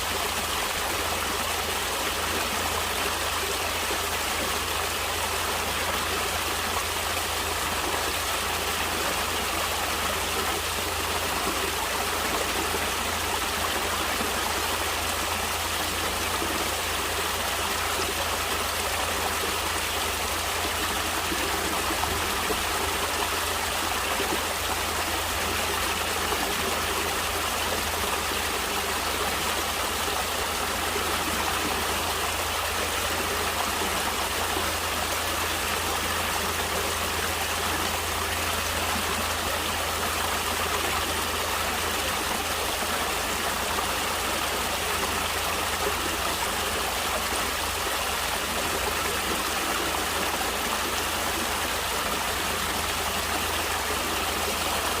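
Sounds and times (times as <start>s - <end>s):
stream flowing and splashing: 0.0s - 55.0s.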